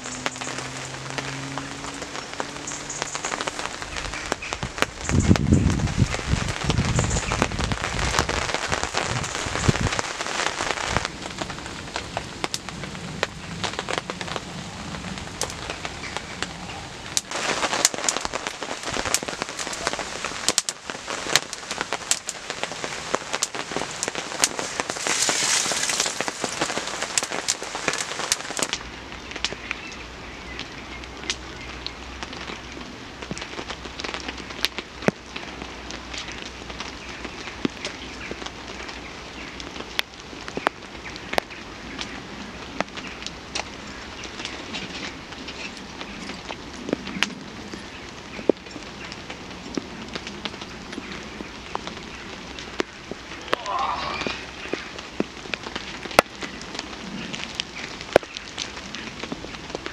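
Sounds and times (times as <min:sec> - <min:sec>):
fire crackling and popping: 0:00.0 - 0:59.9
rain pattering: 0:00.0 - 0:59.9.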